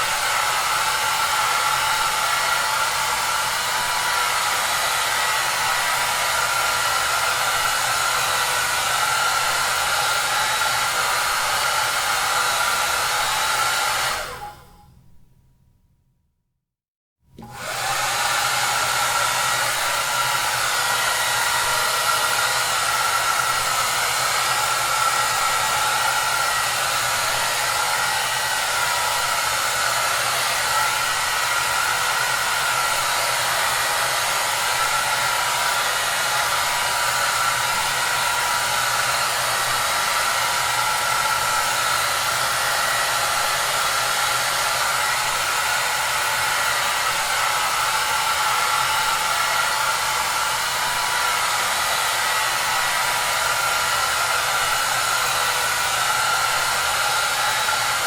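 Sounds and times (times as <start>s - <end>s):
hair dryer blowing air: 0.0s - 14.8s, 17.4s - 58.0s.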